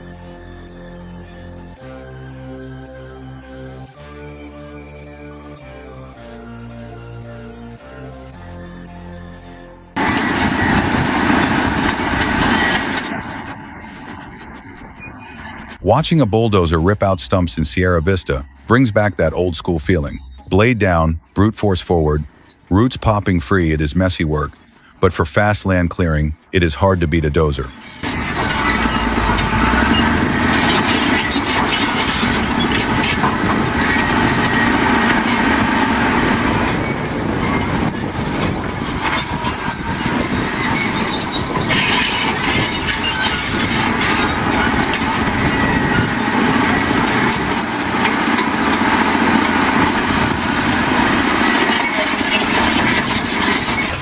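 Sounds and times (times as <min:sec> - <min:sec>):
diesel engine under load: 0:00.0 - 0:54.0
steel tracks squealing and clanking: 0:00.0 - 0:54.0.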